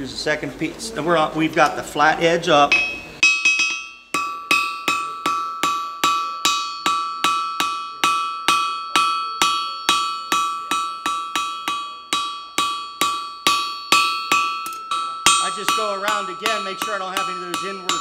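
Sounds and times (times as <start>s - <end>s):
anvil ringing: 2.7s - 18.0s
hammer striking hot steel on anvil: 2.7s - 18.0s.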